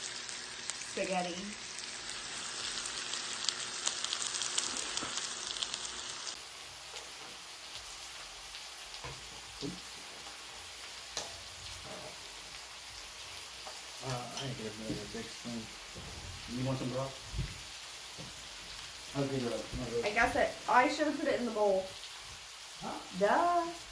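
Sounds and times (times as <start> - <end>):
meat sizzling on a grill: 0.0 - 23.9.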